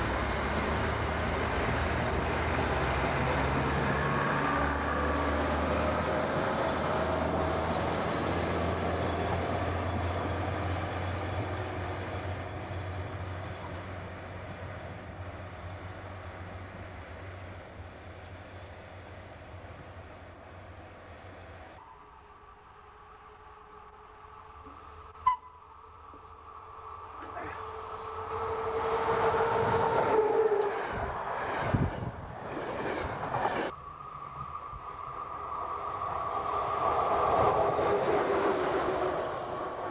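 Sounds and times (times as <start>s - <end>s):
distant train: 0.0s - 39.9s
locomotive steady tone: 0.0s - 39.9s
railcar diesel engines droning: 0.0s - 39.9s
train rumbling past: 0.0s - 39.9s.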